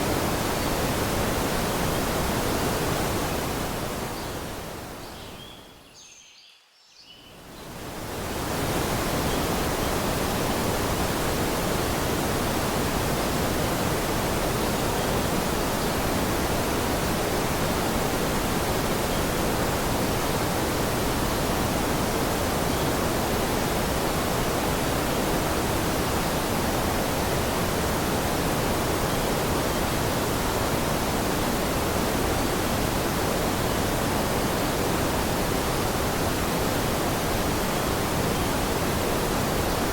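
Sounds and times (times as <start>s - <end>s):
rushing water: 0.0s - 5.4s, 7.4s - 39.9s.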